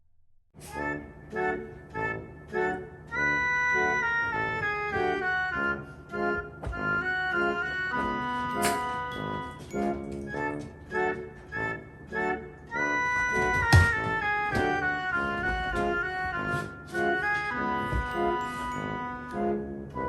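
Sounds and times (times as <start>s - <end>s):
organ and keyboard music: 0.6s - 20.0s.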